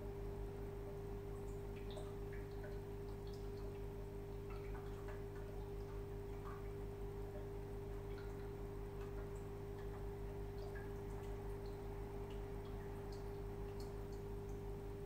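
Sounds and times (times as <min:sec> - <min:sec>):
aquarium equipment hum: 0:00.0 - 0:15.0
water drips and plinks: 0:00.4 - 0:15.0.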